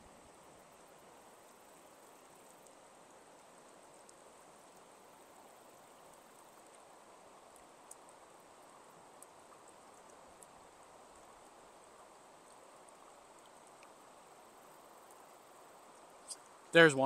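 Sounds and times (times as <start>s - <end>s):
faint ticks: 0.0s - 16.7s
stream water flowing: 0.0s - 17.0s.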